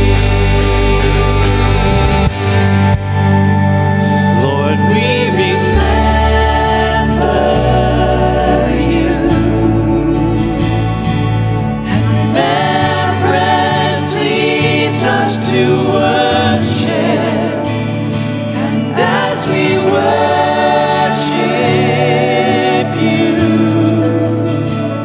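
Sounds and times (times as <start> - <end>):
group of people singing: 0.0 - 3.3, 4.3 - 25.0
worship band playing: 0.0 - 25.0.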